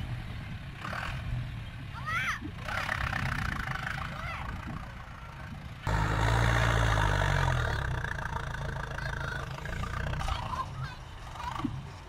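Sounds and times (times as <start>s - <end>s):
heavy vehicle engine rumble: 0.0s - 12.0s
steady engine drone: 0.0s - 12.0s.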